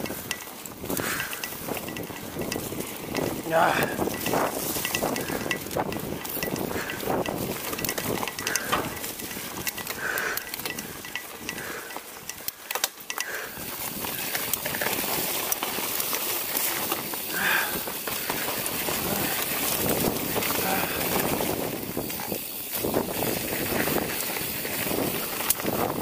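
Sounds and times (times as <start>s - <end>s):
bike clicking and rattling: 0.0s - 26.0s
bike tyres rumbling on dirt trail: 0.0s - 26.0s.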